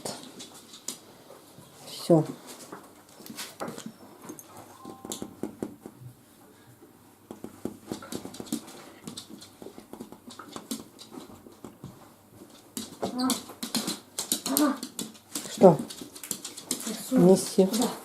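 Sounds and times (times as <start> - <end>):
books and items being handled: 0.0 - 18.0.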